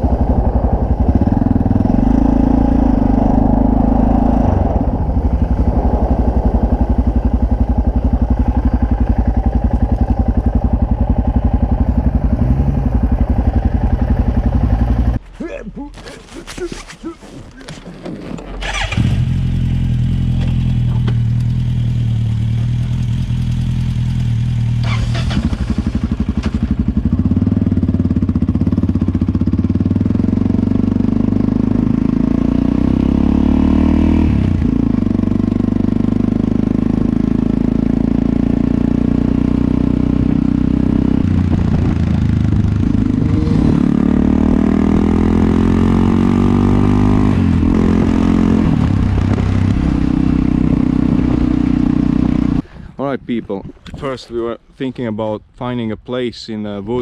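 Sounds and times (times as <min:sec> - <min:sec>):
motorcycle engine running: 0:00.0 - 0:15.2, 0:18.6 - 0:52.6.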